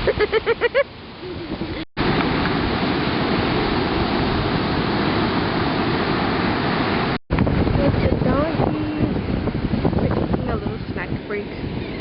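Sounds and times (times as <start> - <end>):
ocean surf rushing: 0.0 - 12.0
wind on the microphone: 1.1 - 12.0.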